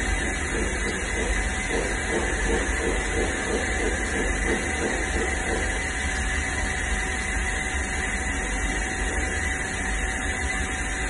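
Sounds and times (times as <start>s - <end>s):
machine hiss and hum: 0.0s - 11.0s.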